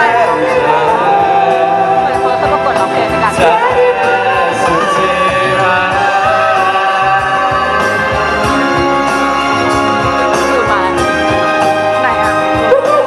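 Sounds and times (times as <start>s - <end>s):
person singing: 0.0s - 11.1s
keyboard chords: 0.0s - 13.0s
steady drum beat: 0.0s - 13.0s.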